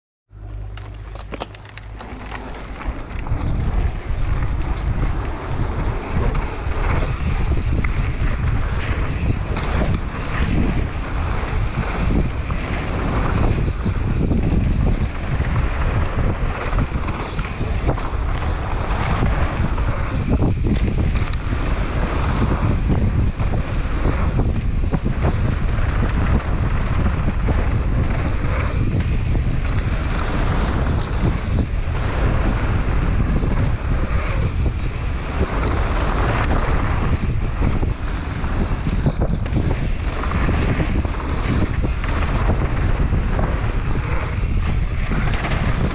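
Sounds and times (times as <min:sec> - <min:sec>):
bike rumbling on dirt trail: 0:00.3 - 0:45.9
wind rushing over microphone: 0:01.6 - 0:45.9.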